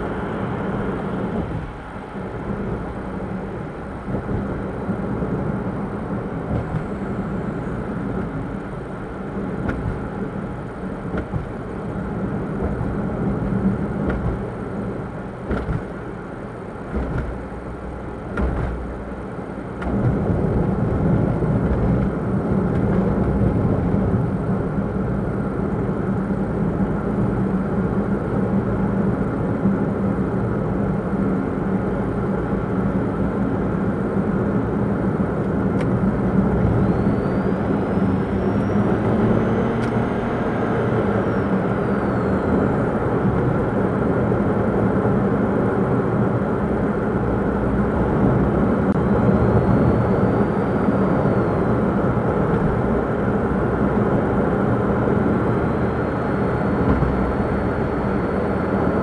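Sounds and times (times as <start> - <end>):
car engine hum: 0.0 - 59.0
road and tyre noise: 0.0 - 59.0.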